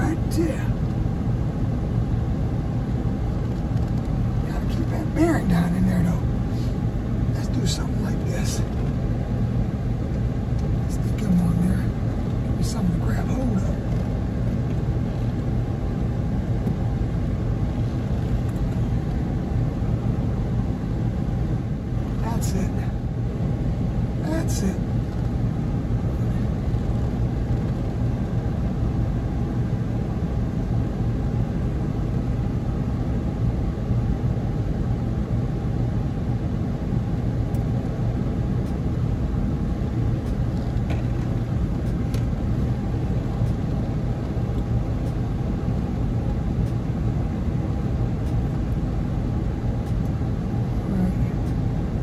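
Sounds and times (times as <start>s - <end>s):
low outdoor rumble: 0.0s - 52.0s.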